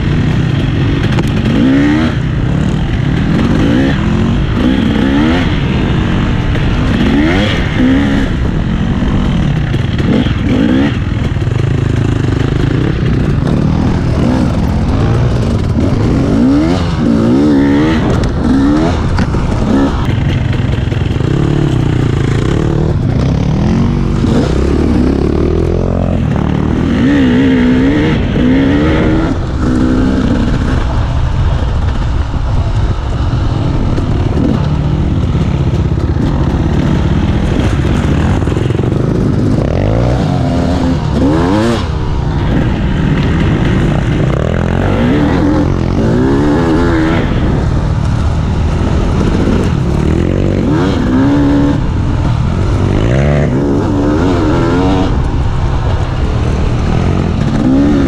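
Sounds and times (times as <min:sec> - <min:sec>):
dirt bike engine revving: 0:00.0 - 0:32.0, 0:33.2 - 0:58.0.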